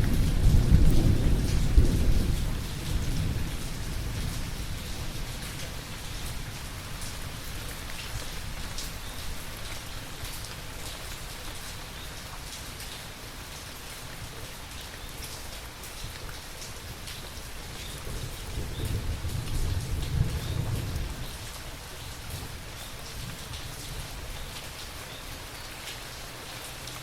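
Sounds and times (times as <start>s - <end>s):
low rain rumble: 0.0s - 27.0s
rain drops ticking on hard surface: 0.0s - 27.0s.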